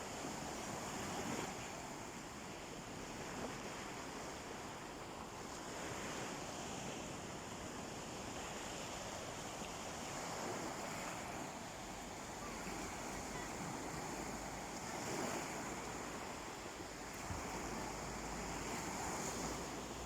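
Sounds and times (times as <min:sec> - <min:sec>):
sea waves washing onto beach: 0:00.0 - 0:20.0
wind on microphone: 0:02.9 - 0:20.0.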